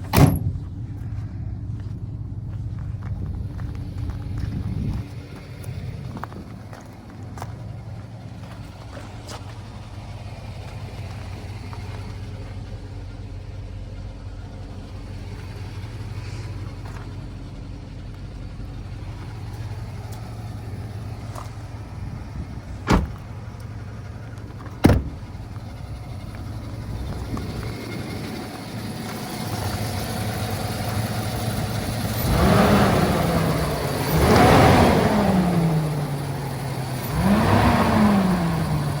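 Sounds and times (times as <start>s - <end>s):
pickup engine idling and revving: 0.0s - 39.0s.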